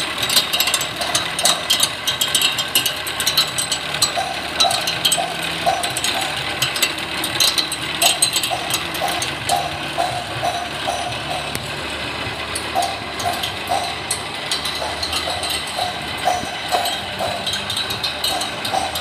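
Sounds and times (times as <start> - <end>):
mower reel spinning on grinder: 0.0 - 19.0
rapid metallic clicking and rattling: 0.0 - 19.0.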